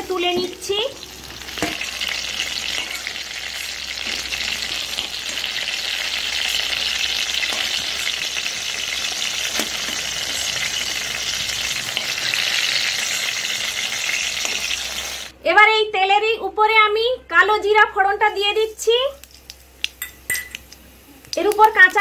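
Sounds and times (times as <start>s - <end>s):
cooking oil sizzling: 0.0s - 15.4s, 18.5s - 22.0s.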